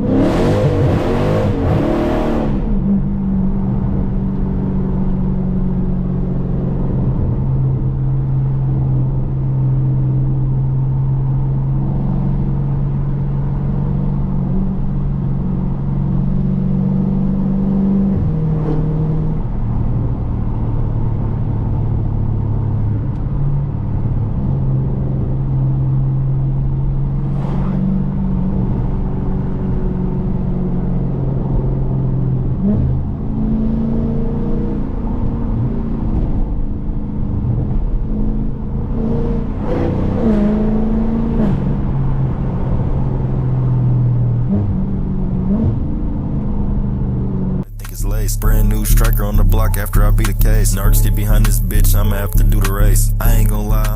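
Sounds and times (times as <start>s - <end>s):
car engine while driving: 0.0s - 53.9s.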